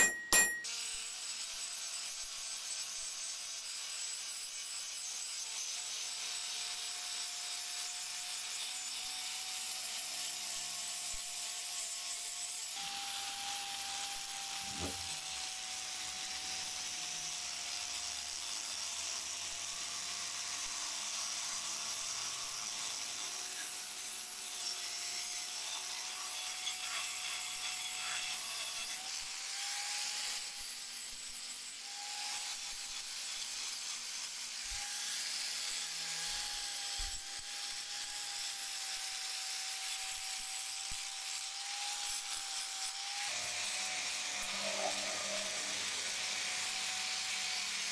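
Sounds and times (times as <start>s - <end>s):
angle grinder grinding steel: 0.0s - 47.9s.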